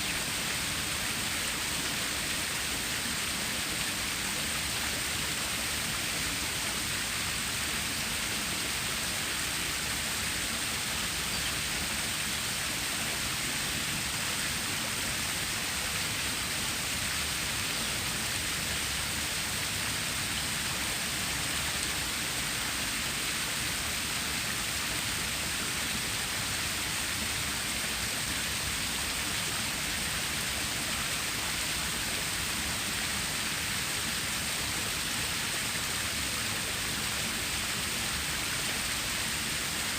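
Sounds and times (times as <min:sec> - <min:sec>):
water stream flowing: 0:00.0 - 0:39.9.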